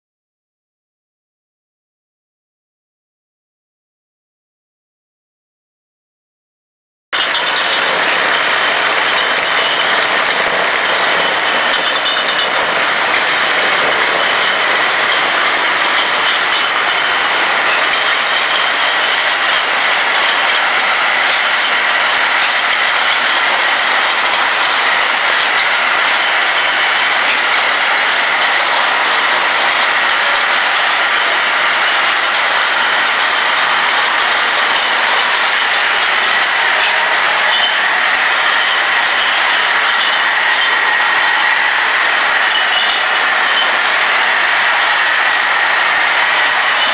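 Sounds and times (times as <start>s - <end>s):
bottle conveyor clattering: 7.2s - 46.9s.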